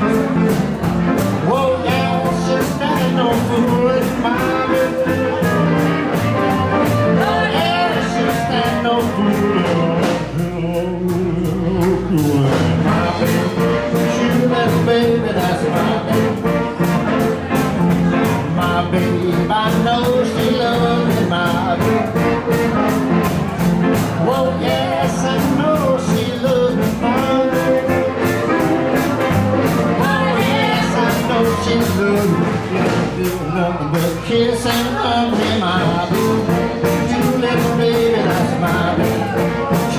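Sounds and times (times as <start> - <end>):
acoustic guitar: 0.0 - 39.9
electric guitar: 0.0 - 39.9
live band playing: 0.0 - 39.9
steady drum beat: 0.0 - 39.9.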